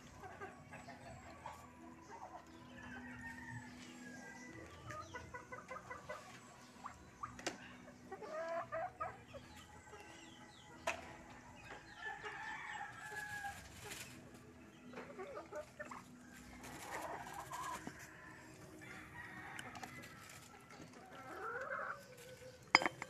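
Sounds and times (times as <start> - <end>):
poultry clucking: 0.0 - 23.0.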